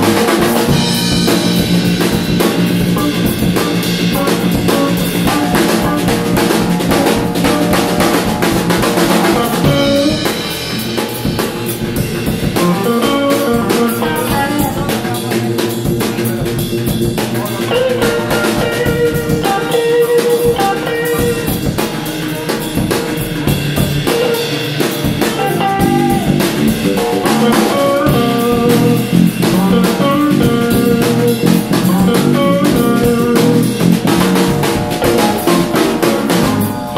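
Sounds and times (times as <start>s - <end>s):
drum kit busy beat: 0.0s - 36.9s
electric bass guitar: 0.0s - 36.9s
melodic electric guitar lines: 0.0s - 36.9s.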